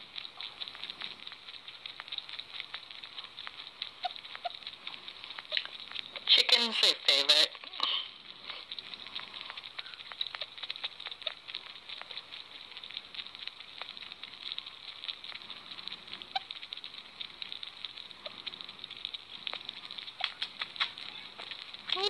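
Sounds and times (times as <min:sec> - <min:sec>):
sugar gliders clicking: 0:00.0 - 0:22.0.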